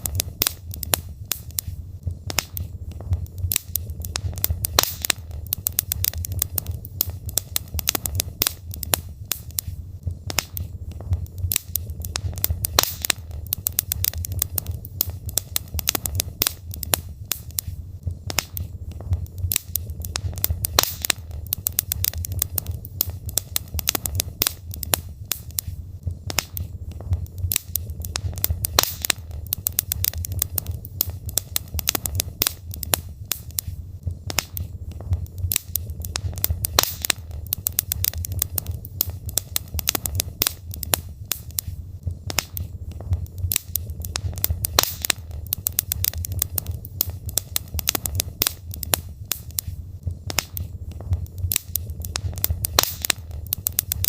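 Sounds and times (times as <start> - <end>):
logs crackling and popping: 0.0 - 54.0
low rumble of fire: 0.0 - 54.0.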